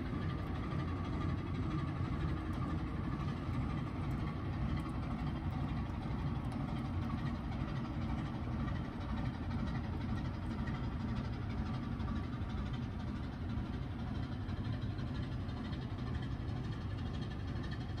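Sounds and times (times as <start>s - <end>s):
ship diesel engine running: 0.0s - 18.0s.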